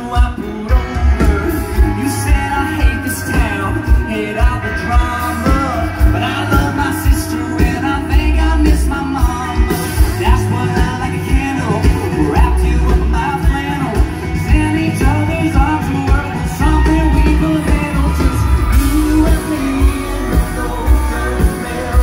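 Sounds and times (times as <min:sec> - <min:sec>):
drums beating: 0:00.0 - 0:22.0
lead guitar melody: 0:00.0 - 0:22.0
live country-rock band: 0:00.0 - 0:22.0.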